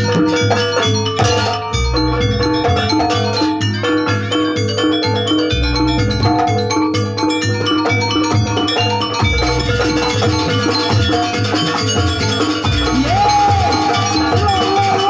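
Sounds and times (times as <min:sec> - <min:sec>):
metal mallet instruments ringing: 0:00.0 - 0:15.0.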